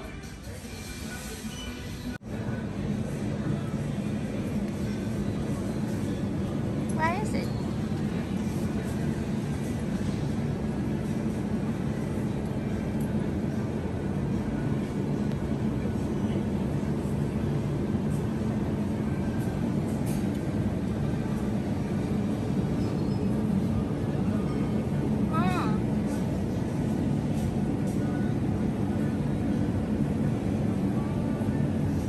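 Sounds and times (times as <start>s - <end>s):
air-conditioning and refrigeration hum: 0.0s - 32.0s.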